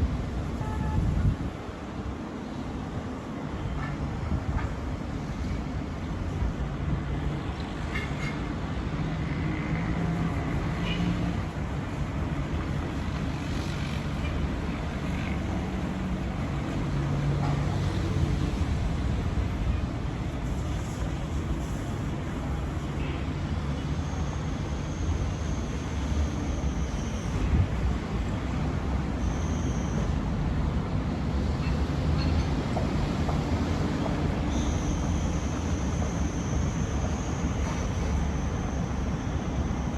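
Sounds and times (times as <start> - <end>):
city traffic rumble: 0.0 - 39.9.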